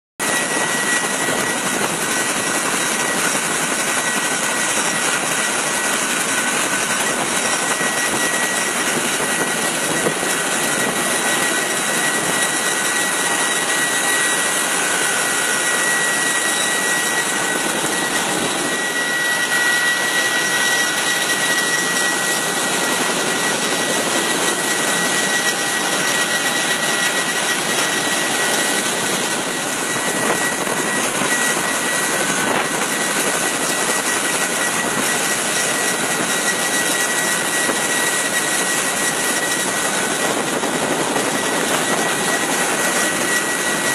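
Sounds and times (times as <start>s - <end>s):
high steady whine: 0.2s - 43.9s
jet turbine engines running: 0.2s - 43.9s.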